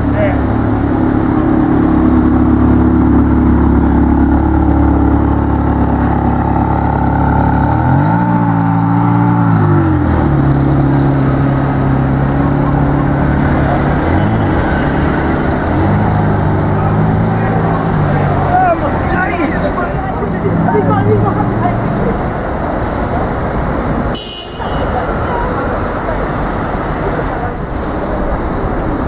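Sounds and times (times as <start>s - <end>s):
car engine revving: 0.0s - 24.2s.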